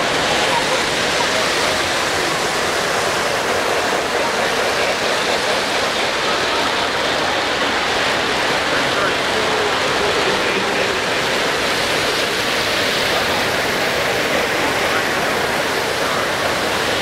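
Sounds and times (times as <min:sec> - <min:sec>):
crowd voices blurred together: 0:00.0 - 0:17.0
model trains running: 0:00.0 - 0:17.0.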